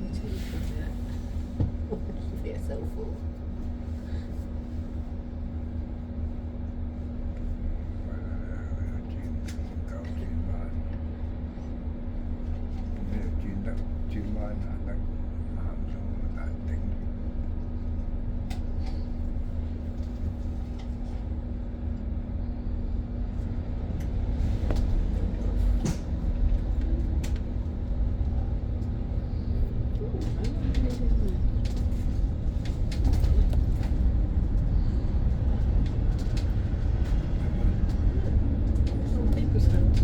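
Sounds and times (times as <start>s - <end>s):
road rumble: 0.0s - 40.0s.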